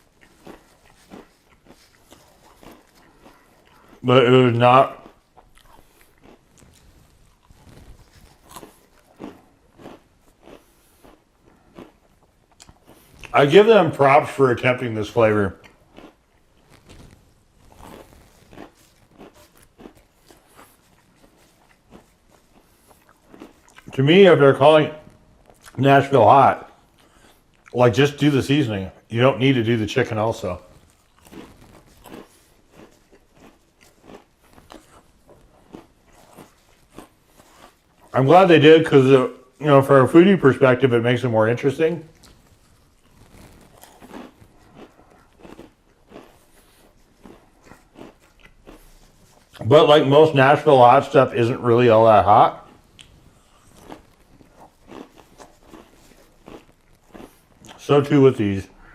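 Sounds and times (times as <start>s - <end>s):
person chewing crunchy snack: 0.0s - 24.0s, 25.0s - 25.8s, 26.6s - 28.3s, 29.7s - 38.2s, 41.9s - 49.7s, 51.3s - 58.0s.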